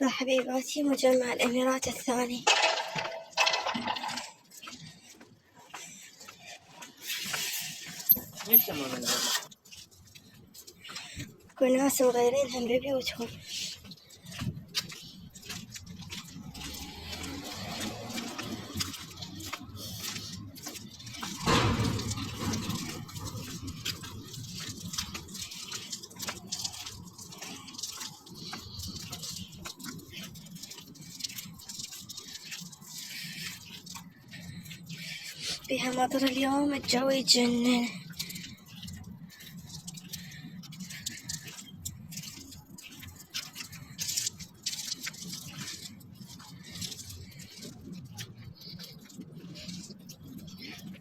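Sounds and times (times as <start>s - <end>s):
raindrops ticking: 9.5s - 51.0s.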